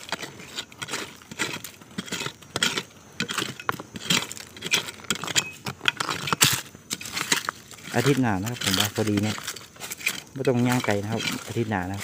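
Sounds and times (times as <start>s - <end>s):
stick scraping through gravelly soil: 0.0s - 12.0s.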